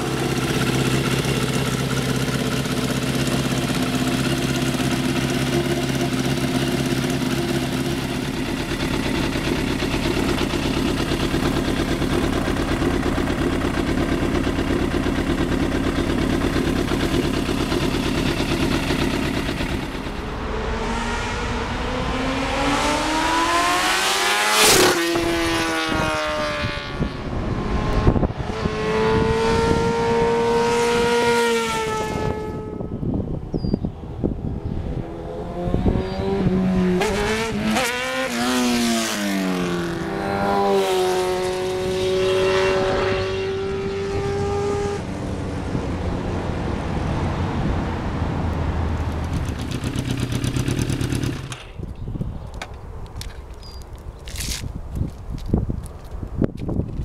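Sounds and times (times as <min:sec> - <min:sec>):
motorcycle engine running: 0:00.0 - 0:45.6, 0:49.0 - 0:52.0
motorcycle passing at speed: 0:00.0 - 0:51.9.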